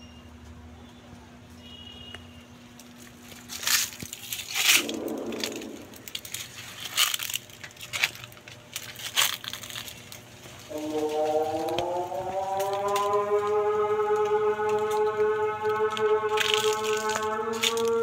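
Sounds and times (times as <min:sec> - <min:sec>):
dry leaves and gravel crunching: 0:02.7 - 0:18.0.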